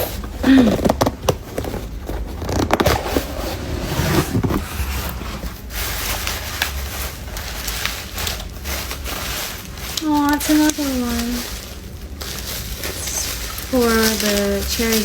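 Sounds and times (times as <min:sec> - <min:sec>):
gift packaging rustling: 0:00.0 - 0:15.0.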